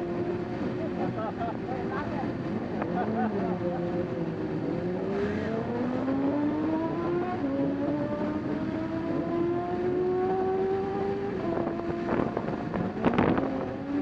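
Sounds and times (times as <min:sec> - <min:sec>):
motorcycle engine accelerating: 0:00.0 - 0:01.2, 0:02.4 - 0:14.0.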